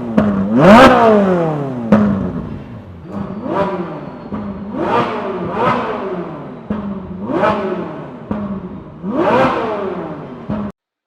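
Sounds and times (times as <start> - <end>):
vehicle engine revving: 0.0 - 10.7.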